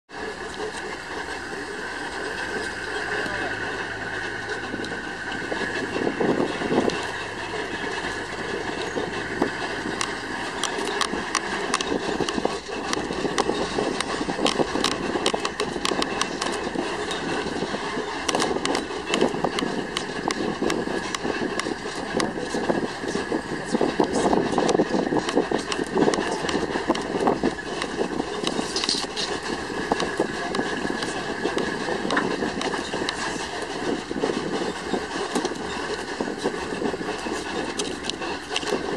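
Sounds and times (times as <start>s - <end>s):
road and engine noise in car: 0.1s - 38.9s
sharp irregular clicks and ticks: 0.1s - 38.9s
vehicle tyres rumbling on dirt: 0.1s - 38.9s.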